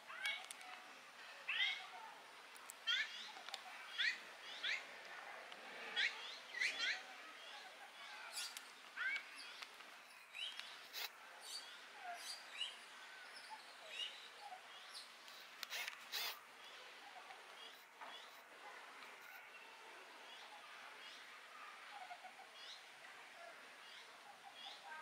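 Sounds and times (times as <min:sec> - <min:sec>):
quiet steady hiss: 0:00.0 - 0:25.0.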